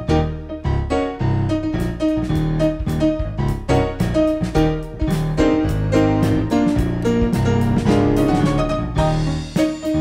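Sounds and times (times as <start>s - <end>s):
electronic keyboard gospel music: 0.0s - 10.0s.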